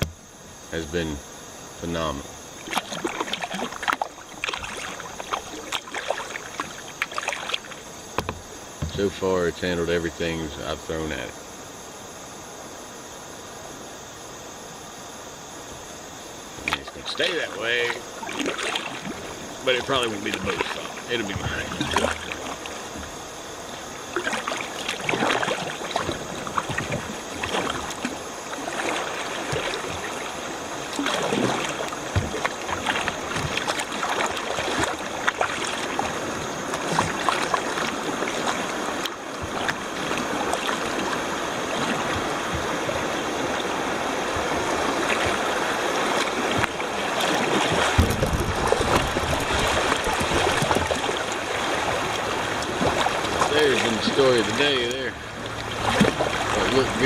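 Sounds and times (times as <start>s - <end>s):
river water rushing: 1.9s - 9.2s, 16.4s - 57.0s
paddle stroke splashes: 1.9s - 11.2s, 16.6s - 57.0s.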